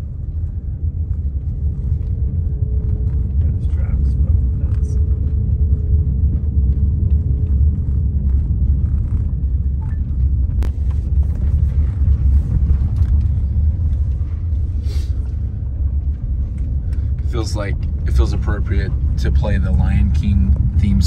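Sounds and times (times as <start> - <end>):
road and wind noise in vehicle: 0.0 - 21.0.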